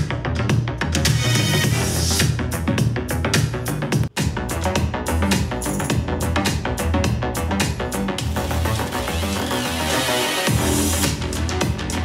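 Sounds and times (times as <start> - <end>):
electronic dance music: 1.0 - 12.0.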